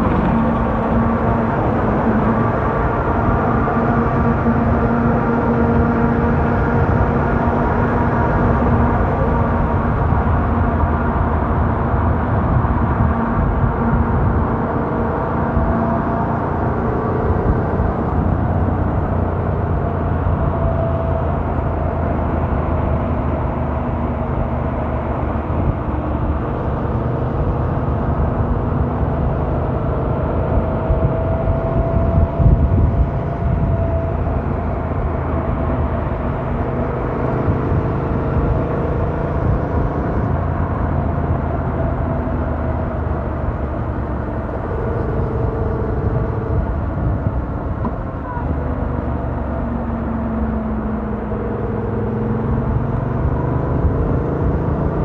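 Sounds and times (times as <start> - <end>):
wind rush: 0.0 - 49.7.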